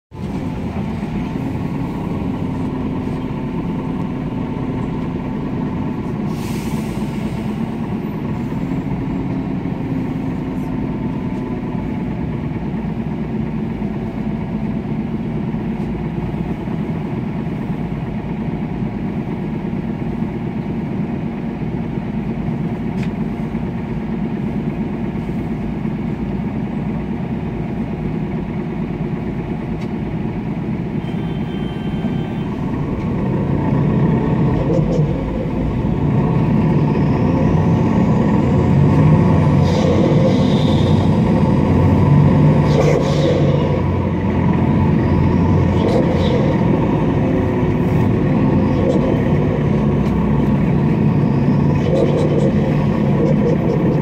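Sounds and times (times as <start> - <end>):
bus engine drone with whine: 0.1 - 54.0.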